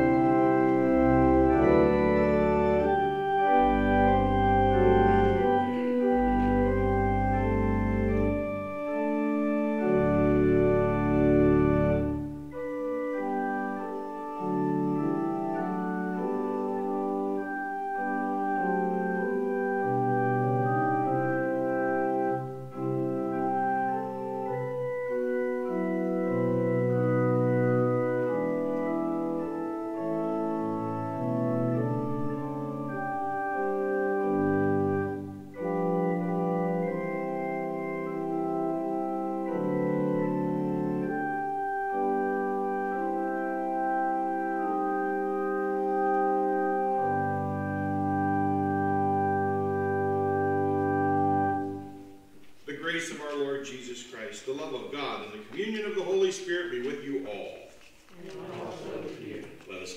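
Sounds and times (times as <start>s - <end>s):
church organ playing chords: 0.0s - 57.2s.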